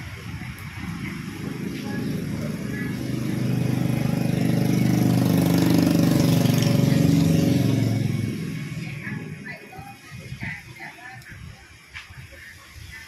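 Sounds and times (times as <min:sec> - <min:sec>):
vehicle engine humming: 0:00.0 - 0:11.3.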